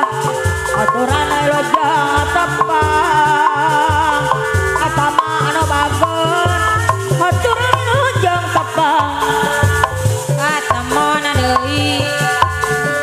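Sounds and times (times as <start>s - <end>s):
hand drums beating: 0.0s - 13.0s.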